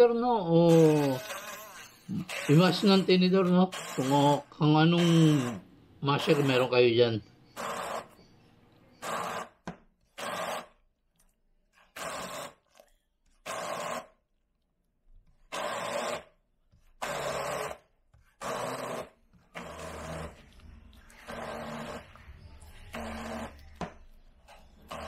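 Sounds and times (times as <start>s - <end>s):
hand blender pulsing: 0.4s - 6.8s, 7.5s - 8.3s, 8.9s - 10.8s, 11.8s - 14.2s, 15.3s - 25.0s.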